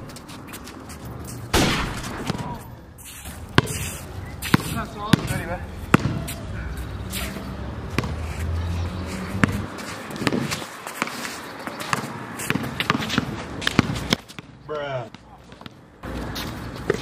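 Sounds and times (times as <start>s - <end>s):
basketball bouncing on asphalt: 0.0s - 7.0s, 7.8s - 8.5s, 9.2s - 17.0s.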